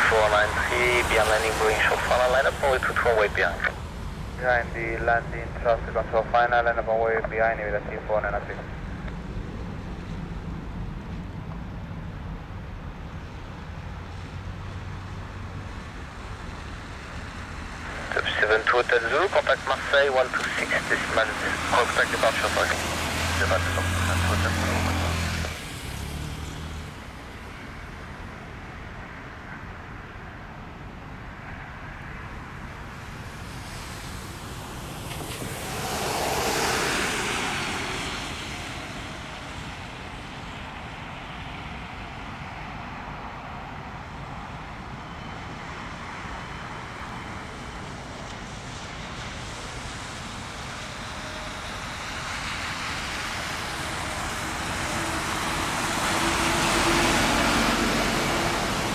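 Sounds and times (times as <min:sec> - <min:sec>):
jet engine rumble: 0:00.0 - 0:58.9.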